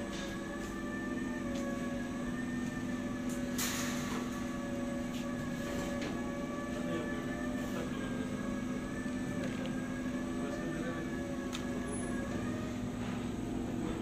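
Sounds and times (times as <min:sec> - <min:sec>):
machine hum with constant tones: 0:00.0 - 0:14.0.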